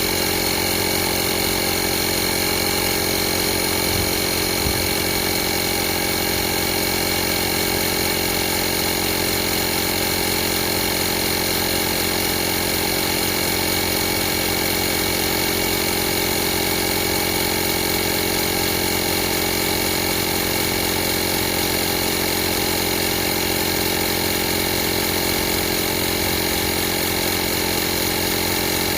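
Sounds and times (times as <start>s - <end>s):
electric air compressor running: 0.0s - 28.9s.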